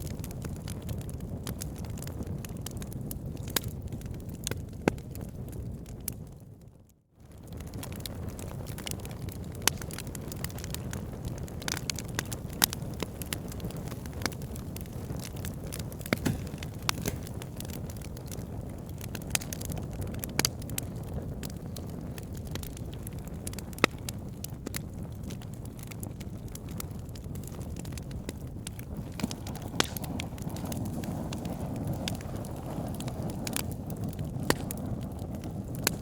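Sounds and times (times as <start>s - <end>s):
burning logs crackling and popping: 0.0s - 36.0s.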